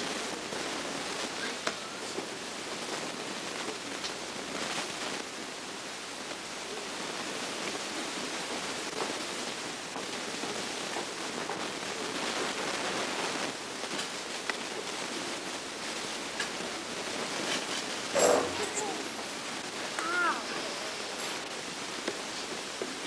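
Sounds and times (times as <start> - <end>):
camcorder hiss: 0.0 - 23.0.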